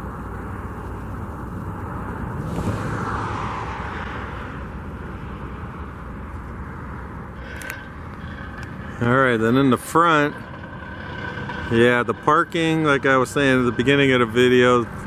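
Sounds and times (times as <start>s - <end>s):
traffic noise: 0.0s - 15.0s
vehicle passing: 1.6s - 15.0s.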